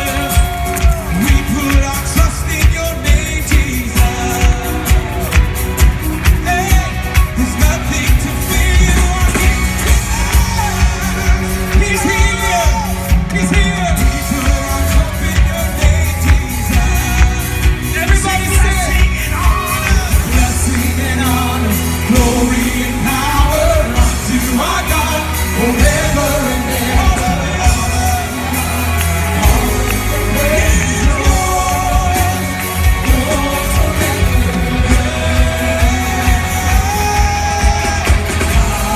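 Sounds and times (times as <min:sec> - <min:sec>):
drums keeping steady beat: 0:00.0 - 0:38.9
full band playing: 0:00.0 - 0:38.9
group of singers: 0:00.0 - 0:38.9.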